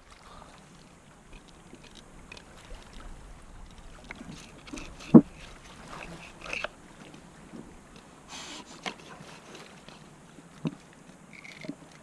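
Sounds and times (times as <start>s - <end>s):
water lapping: 0.0s - 12.0s.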